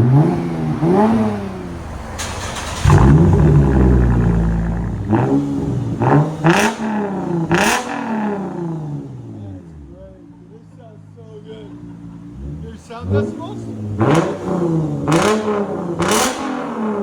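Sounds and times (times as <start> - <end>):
exhaust cracks: 0.0 - 9.5, 12.3 - 17.0
car engine revving: 0.0 - 10.2, 10.9 - 17.0.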